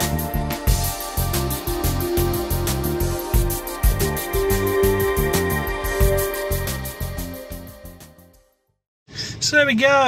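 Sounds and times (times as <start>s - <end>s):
instrumental music with steady beat: 0.0s - 8.6s.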